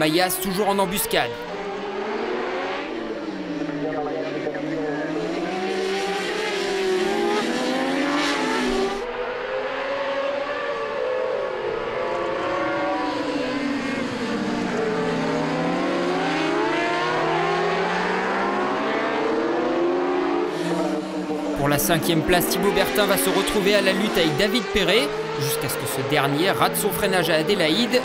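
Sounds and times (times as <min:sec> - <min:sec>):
motorcycle engines revving past: 0:01.4 - 0:28.0.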